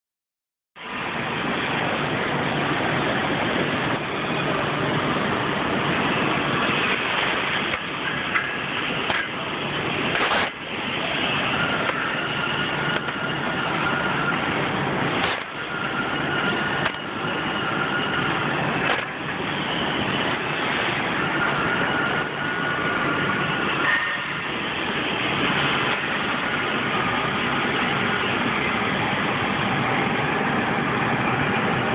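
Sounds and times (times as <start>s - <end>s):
laser cutter rushing noise: 0.8s - 31.9s
whining tones: 0.8s - 31.9s.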